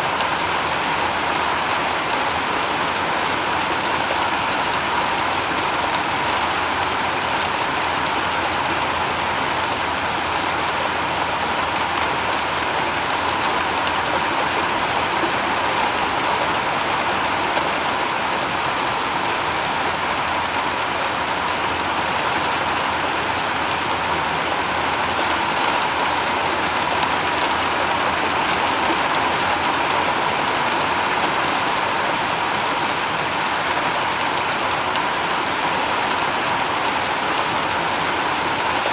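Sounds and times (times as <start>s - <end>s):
rain on a shingle roof: 0.0s - 38.9s.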